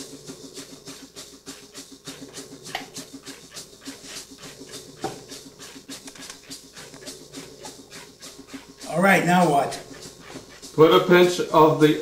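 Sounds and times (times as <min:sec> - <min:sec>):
fast even pulsing: 0:00.0 - 0:12.0.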